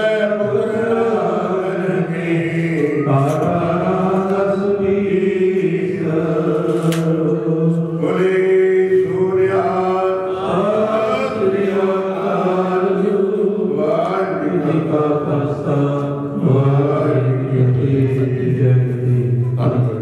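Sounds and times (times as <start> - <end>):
person singing devotional song: 0.0 - 20.0
steady drone accompaniment: 0.0 - 20.0.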